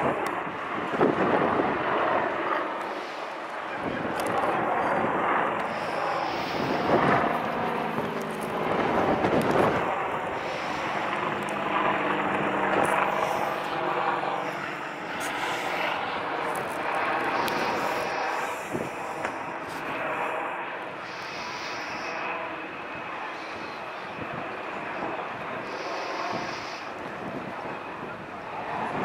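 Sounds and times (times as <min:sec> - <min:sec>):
helicopter rotor and turbine noise: 0:00.0 - 0:29.0.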